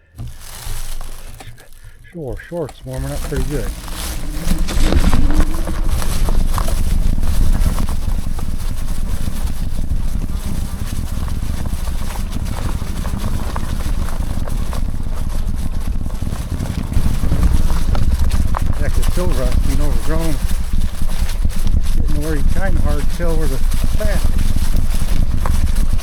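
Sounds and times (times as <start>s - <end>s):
bike rattling and knocking: 0.0s - 26.0s
wind buffeting microphone: 0.0s - 26.0s.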